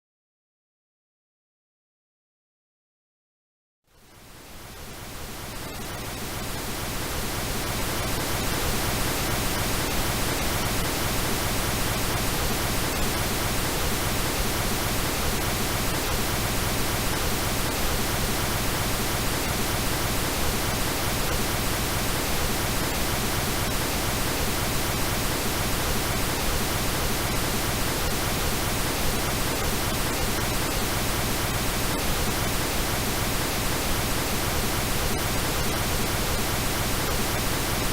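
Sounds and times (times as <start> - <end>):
pink noise hiss: 4.0 - 37.9.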